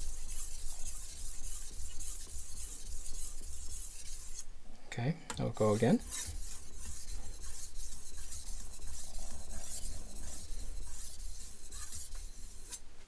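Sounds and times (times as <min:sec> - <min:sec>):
knife rasping on whetstone: 0:00.0 - 0:04.5, 0:05.6 - 0:12.8.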